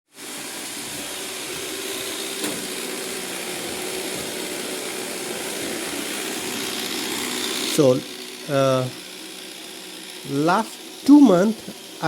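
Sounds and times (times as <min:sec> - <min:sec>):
robot vacuum running: 0:00.1 - 0:12.0.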